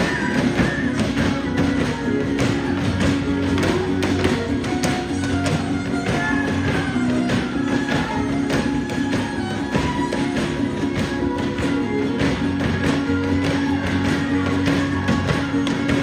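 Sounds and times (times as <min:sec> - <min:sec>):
sharp percussive taps: 0:00.0 - 0:16.0
strummed guitars: 0:00.0 - 0:16.0
violin melody with slides: 0:00.0 - 0:16.0.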